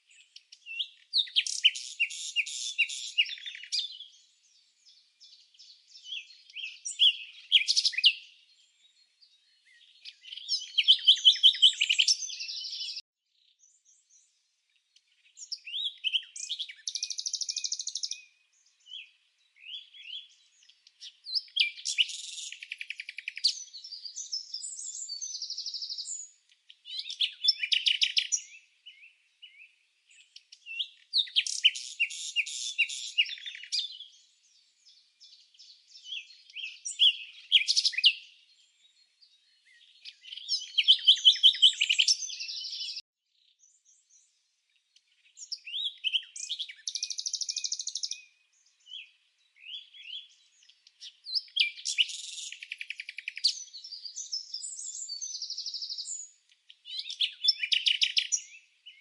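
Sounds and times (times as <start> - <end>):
bird song: 0.0 - 59.0.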